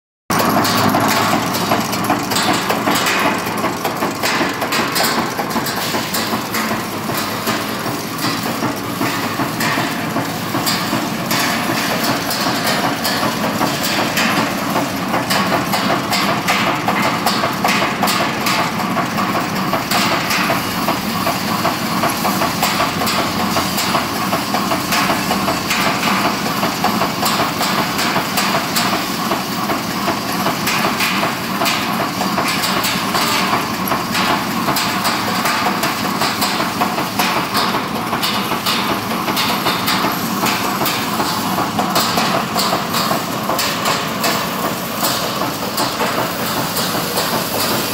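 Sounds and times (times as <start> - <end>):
nail making machine clattering: 0.3 - 47.9.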